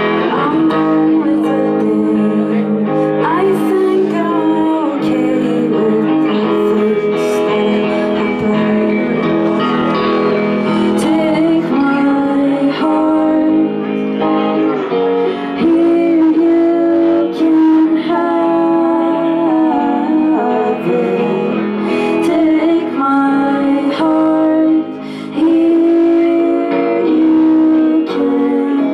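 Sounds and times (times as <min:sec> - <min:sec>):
electric guitar chords: 0:00.0 - 0:28.9
woman singing: 0:00.0 - 0:28.9.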